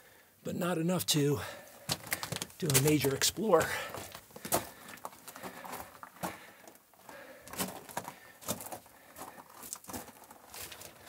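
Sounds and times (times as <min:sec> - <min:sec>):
footsteps crunching on gravel: 0:01.8 - 0:11.0.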